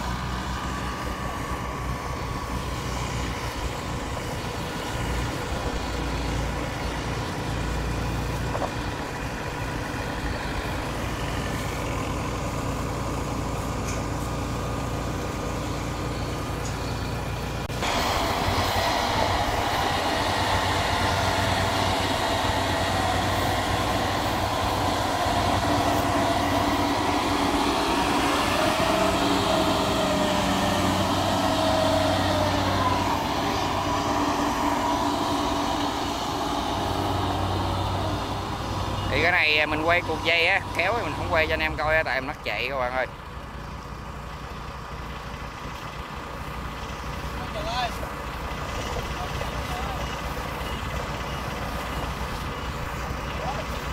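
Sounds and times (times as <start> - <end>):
harvester diesel engine running: 0.0 - 53.9.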